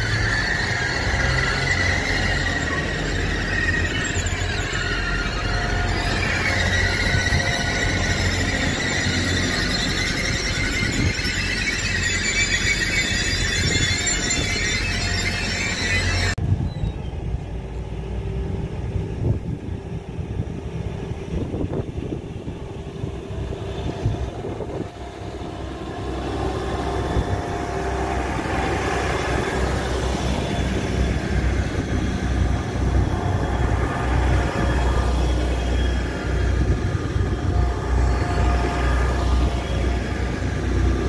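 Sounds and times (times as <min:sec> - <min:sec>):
high squeal: 0:00.0 - 0:17.2, 0:23.1 - 0:41.0
diesel train rumbling: 0:00.0 - 0:41.0.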